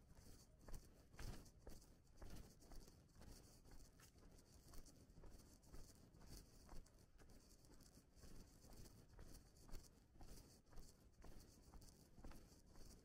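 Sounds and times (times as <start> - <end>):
faint footsteps on a path: 0.0 - 13.0.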